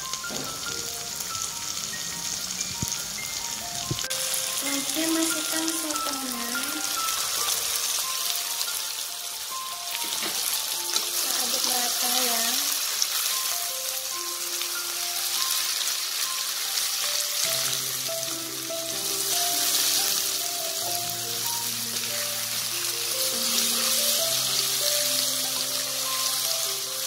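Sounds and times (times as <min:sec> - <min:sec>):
background music: 0:00.0 - 0:27.0
seafood sizzling in a wok: 0:00.0 - 0:27.0.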